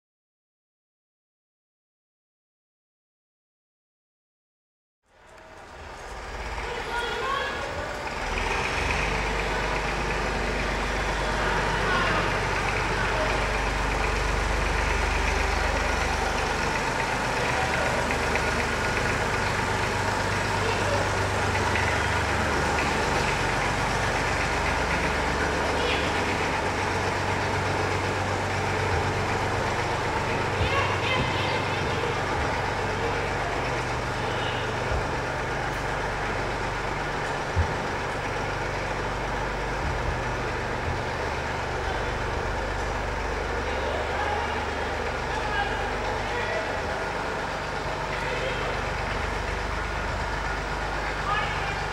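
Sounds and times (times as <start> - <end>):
tractor engine running: 5.1 - 51.9.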